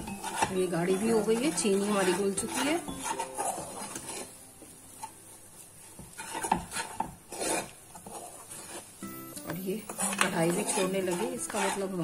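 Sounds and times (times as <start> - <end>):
spoon scraping a pan: 0.0 - 12.0.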